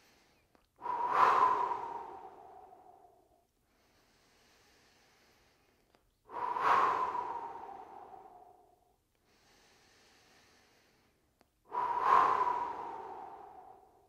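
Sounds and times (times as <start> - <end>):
quiet inhale through nose: 0.0 - 14.0.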